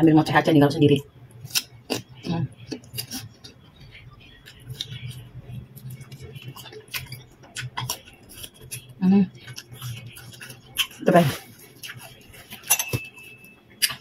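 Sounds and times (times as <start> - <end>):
fruit crunching while chewed: 1.4 - 13.1, 13.8 - 14.0.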